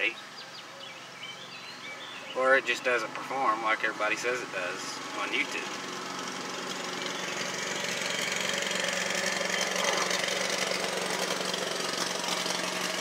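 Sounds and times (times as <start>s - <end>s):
lawn mower engine running: 1.4s - 13.0s.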